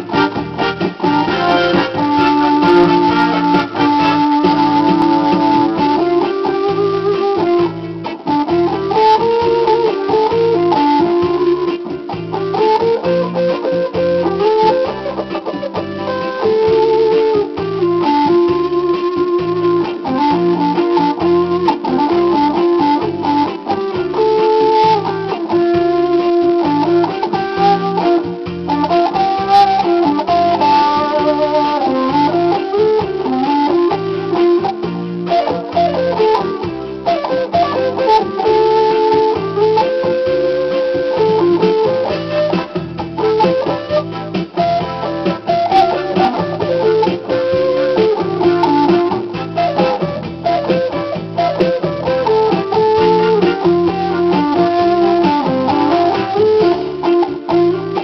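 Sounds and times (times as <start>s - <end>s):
electric guitar waltz: 0.0s - 58.0s.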